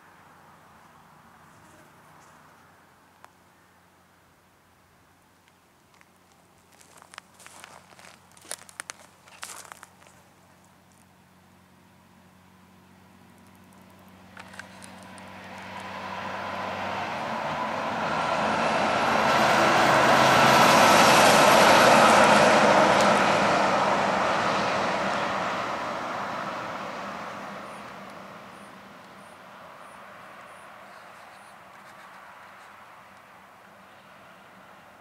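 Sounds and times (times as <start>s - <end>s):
truck passing: 6.7s - 35.0s.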